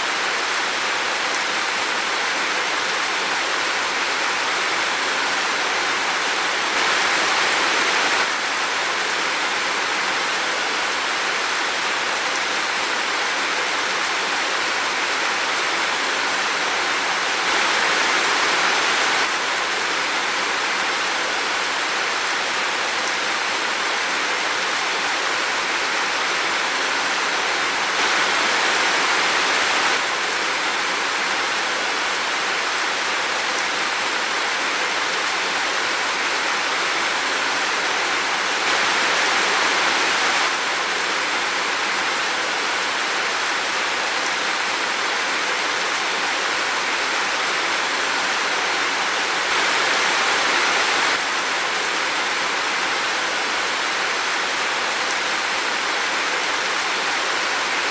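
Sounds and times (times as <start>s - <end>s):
heavy rain hissing: 0.0s - 57.9s.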